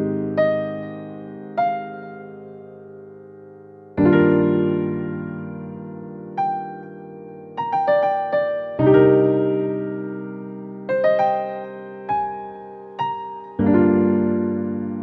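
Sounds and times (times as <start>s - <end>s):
calm electric piano music: 0.0s - 15.0s.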